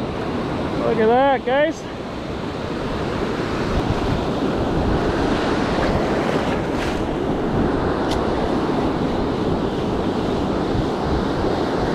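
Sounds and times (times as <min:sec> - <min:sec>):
ocean surf washing over sand: 0:00.0 - 0:11.9
wind rumbling on microphone: 0:00.0 - 0:11.9.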